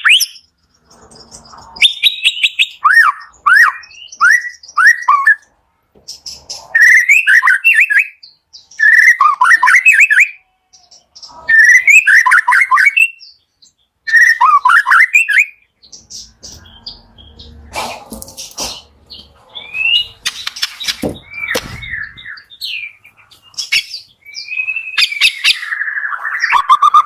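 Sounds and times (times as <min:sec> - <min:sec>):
bird singing whistled notes: 0:00.0 - 0:00.5, 0:01.2 - 0:05.5, 0:06.7 - 0:10.5, 0:11.1 - 0:17.7, 0:19.1 - 0:27.0.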